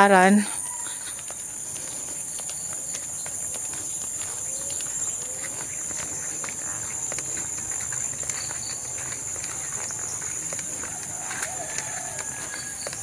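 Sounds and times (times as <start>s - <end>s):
footsteps on concrete path: 0.0s - 13.0s
high-pitched insect chorus: 0.0s - 13.0s.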